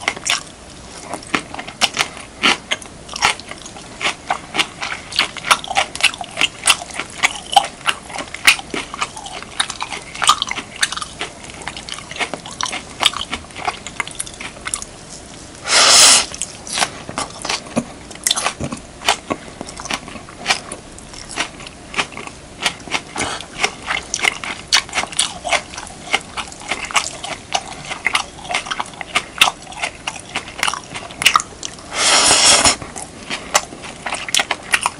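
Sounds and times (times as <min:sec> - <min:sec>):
wet chewing and crunching: 0:00.0 - 0:15.6, 0:16.2 - 0:34.9.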